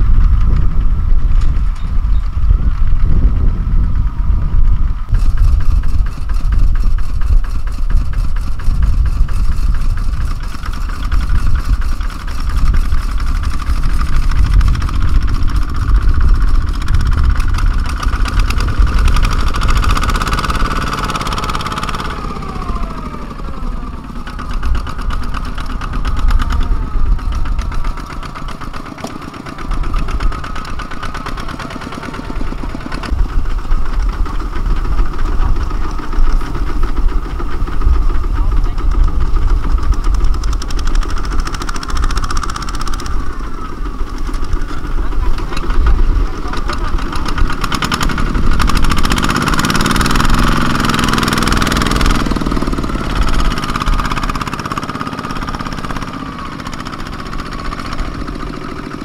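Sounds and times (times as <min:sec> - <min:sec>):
diesel tractor engine chugging: 0:00.0 - 0:59.0.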